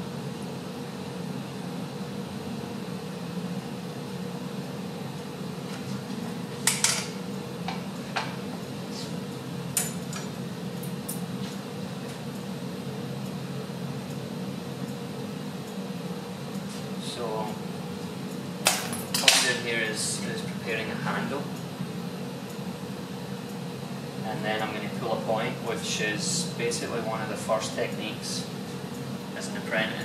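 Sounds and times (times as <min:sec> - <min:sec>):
gas burner flame: 0:00.0 - 0:30.0.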